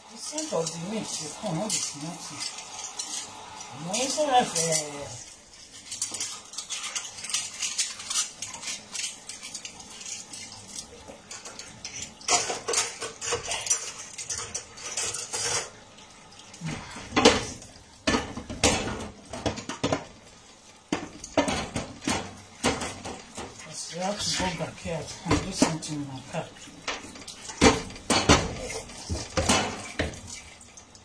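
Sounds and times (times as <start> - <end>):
dishes and cutlery clinking in sink: 0.0 - 31.0.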